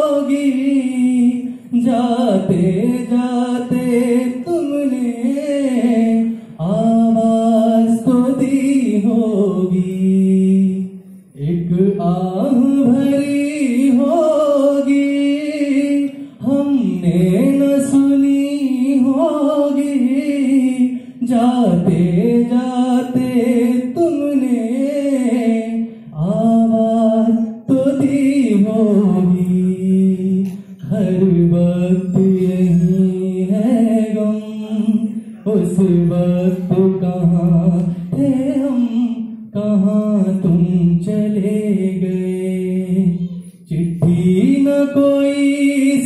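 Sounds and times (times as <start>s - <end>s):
man singing unaccompanied: 0.0s - 46.0s.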